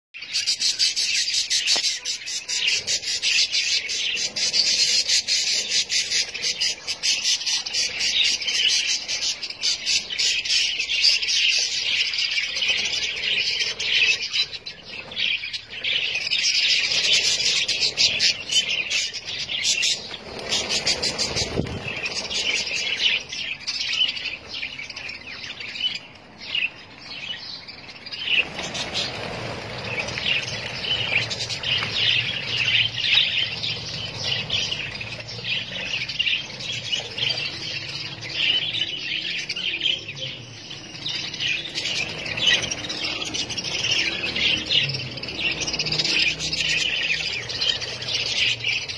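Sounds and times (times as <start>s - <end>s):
budgerigars chattering and chirping: 0.2s - 48.9s.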